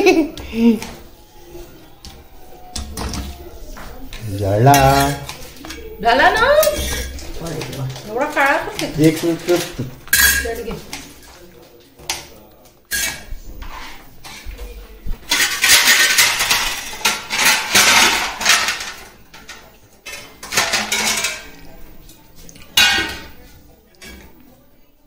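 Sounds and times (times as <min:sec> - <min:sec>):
steel pots and utensils clattering: 0:00.0 - 0:24.6.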